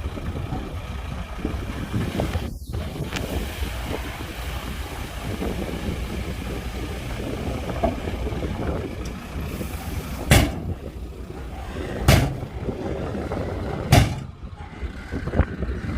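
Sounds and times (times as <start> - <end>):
heavy machinery rumbling: 0.0 - 15.9.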